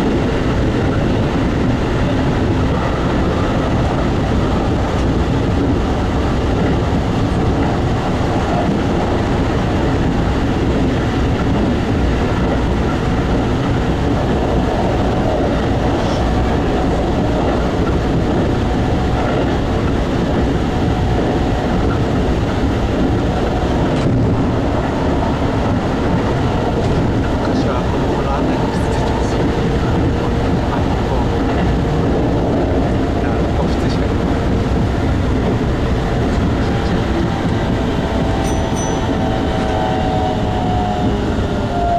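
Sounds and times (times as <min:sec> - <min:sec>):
train passing on next track: 0:00.0 - 0:41.9
train wheels rumbling on rail: 0:00.0 - 0:41.9.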